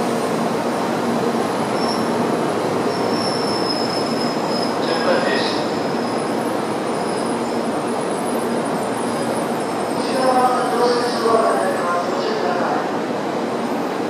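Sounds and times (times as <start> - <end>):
train rumble and hiss: 0.0 - 14.0.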